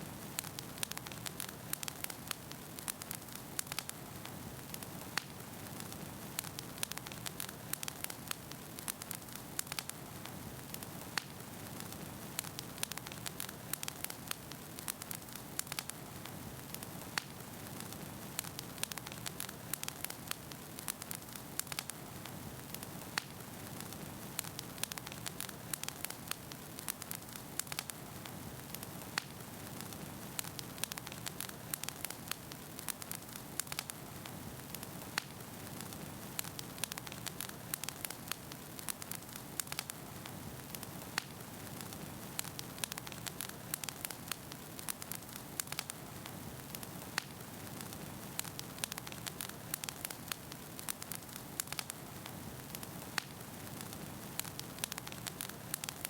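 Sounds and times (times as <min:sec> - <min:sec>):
burning logs crackling and popping: 0:00.0 - 0:56.0.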